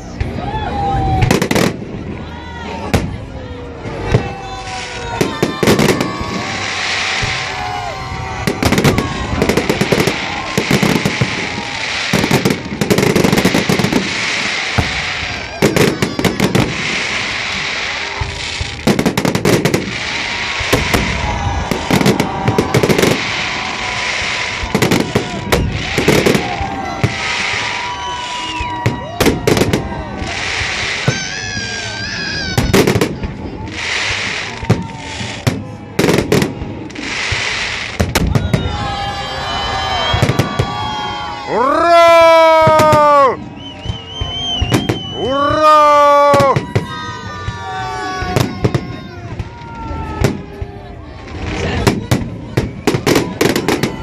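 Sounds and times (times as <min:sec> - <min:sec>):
fireworks cracking and banging: 0:00.0 - 0:54.0.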